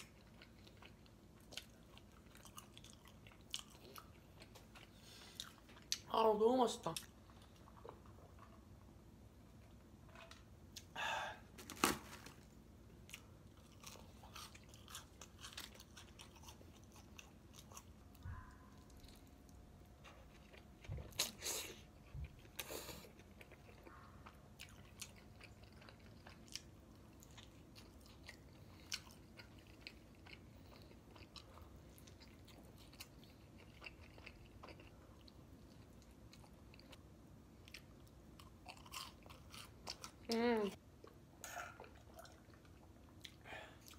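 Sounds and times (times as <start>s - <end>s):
chewing crunchy food: 0.0s - 6.1s, 6.9s - 10.9s, 12.9s - 43.9s.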